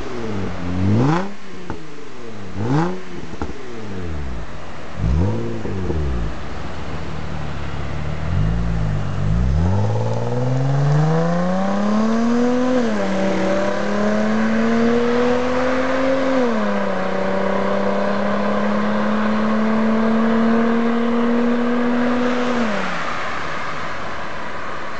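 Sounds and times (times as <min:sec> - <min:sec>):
car engine accelerating with gear changes: 0:00.0 - 0:23.1.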